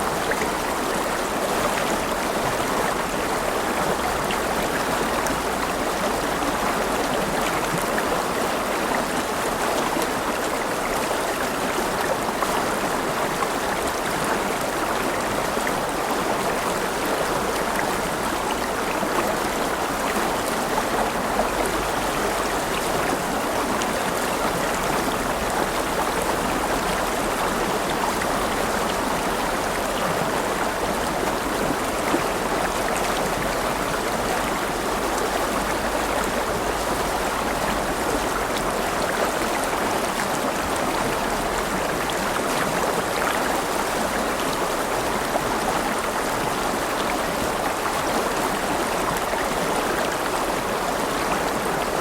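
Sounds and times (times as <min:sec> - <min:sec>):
river water flowing and splashing: 0:00.0 - 0:52.0.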